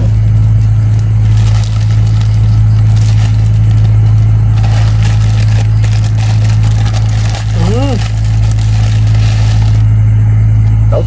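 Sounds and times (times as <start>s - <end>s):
faint rustling and crunching: 0.0s - 9.9s
loud low motor hum: 0.0s - 11.0s.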